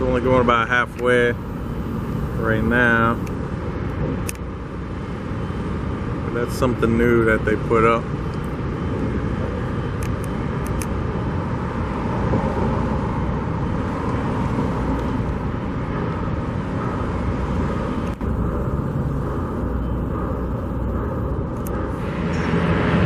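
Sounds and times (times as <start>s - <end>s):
outdoor background rumble: 0.0s - 23.0s.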